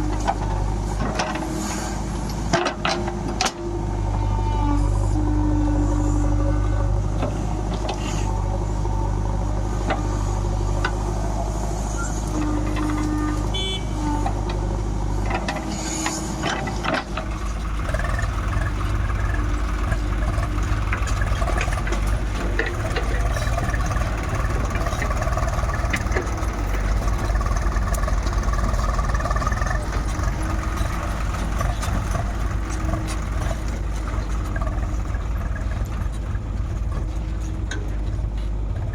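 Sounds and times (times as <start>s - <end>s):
diesel engine drone: 0.0s - 38.9s.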